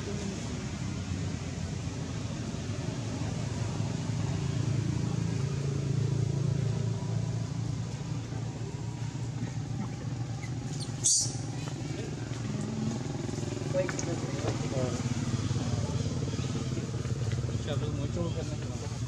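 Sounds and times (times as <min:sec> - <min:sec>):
motor vehicle engine drone: 0:00.0 - 0:19.0.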